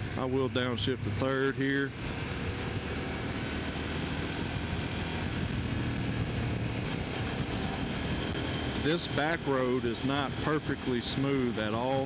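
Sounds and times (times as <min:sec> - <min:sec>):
motorcycle engine running: 0:00.0 - 0:12.0
wind rushing over microphone: 0:01.9 - 0:12.0.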